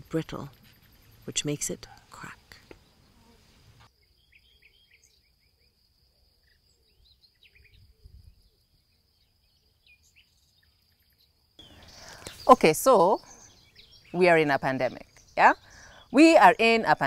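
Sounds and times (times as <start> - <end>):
faint high insect-like hum: 0.0 - 17.0
small bird chirps: 0.1 - 5.8, 6.4 - 16.4.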